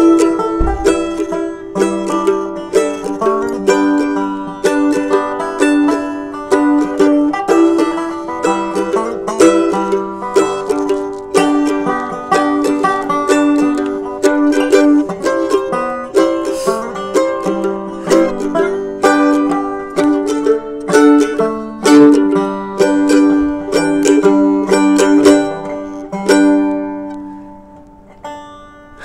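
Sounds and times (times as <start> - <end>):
banjo and mandolin playing: 0.0 - 29.0.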